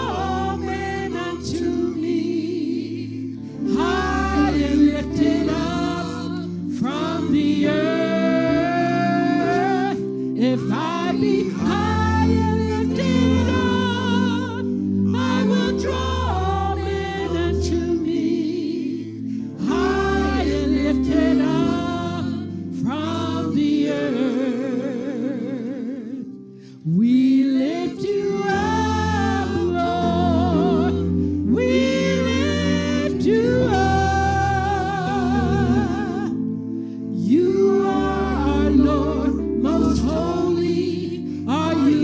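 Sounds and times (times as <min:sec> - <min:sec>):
bass accompaniment: 0:00.0 - 0:24.2, 0:28.1 - 0:42.0
voices singing gospel: 0:00.0 - 0:42.0.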